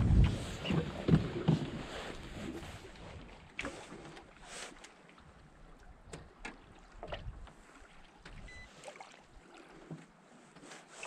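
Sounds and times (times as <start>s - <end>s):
waves lapping against boat hull: 0.0s - 11.0s.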